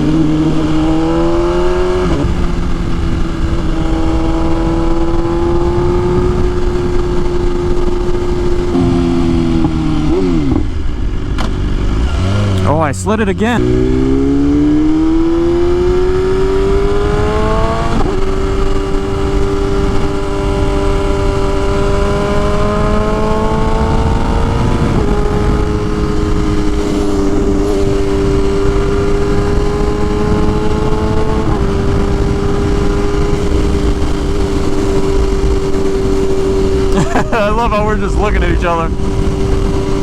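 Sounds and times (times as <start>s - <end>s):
motorcycle engine accelerating: 0.0s - 40.0s
wind rush: 0.0s - 40.0s.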